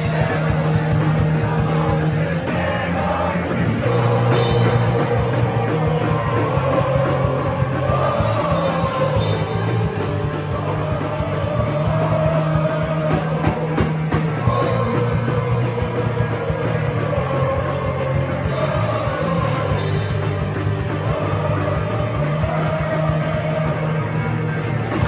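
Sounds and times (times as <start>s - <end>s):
bass guitar: 0.0s - 25.0s
drums: 0.0s - 25.0s
electric guitars: 0.0s - 25.0s.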